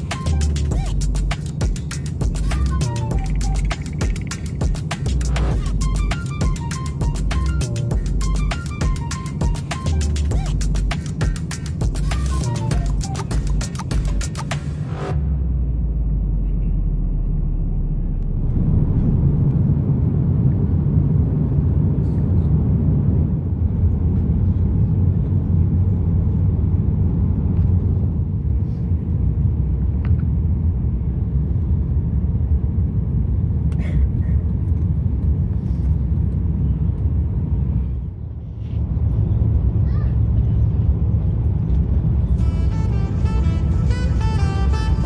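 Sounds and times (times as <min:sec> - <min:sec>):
vehicle low rumble: 0:00.0 - 0:45.0.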